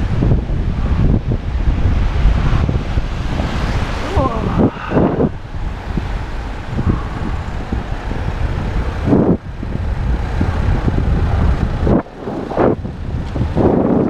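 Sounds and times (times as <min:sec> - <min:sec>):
road and traffic noise: 0:00.0 - 0:14.0
wind buffeting microphone: 0:00.0 - 0:14.0.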